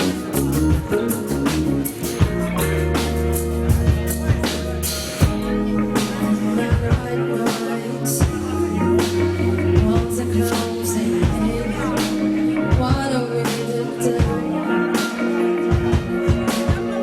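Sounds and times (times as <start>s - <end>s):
drum hits and cymbals: 0.0s - 17.0s
live band playing: 0.0s - 17.0s.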